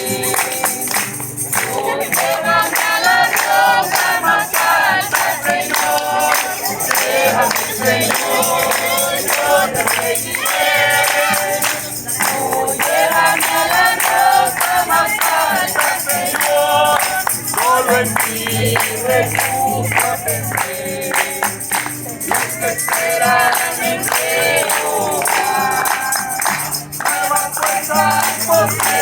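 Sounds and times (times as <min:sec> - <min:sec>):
group singing a hymn: 0:00.0 - 0:29.0
tambourine: 0:00.0 - 0:29.0.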